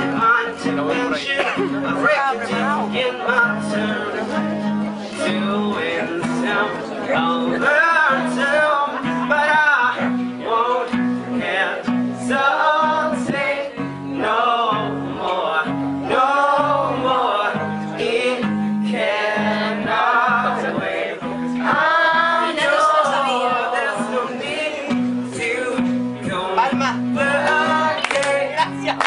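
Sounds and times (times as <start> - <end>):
guitar: 0.0 - 29.0
man singing: 0.0 - 29.0.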